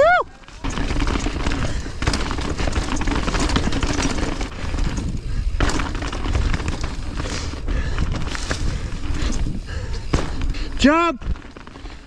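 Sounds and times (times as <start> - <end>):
bike rattling over bumps: 0.0 - 12.0
tyres on dirt and leaves: 0.3 - 12.0
wind rumbling on microphone: 0.6 - 12.0.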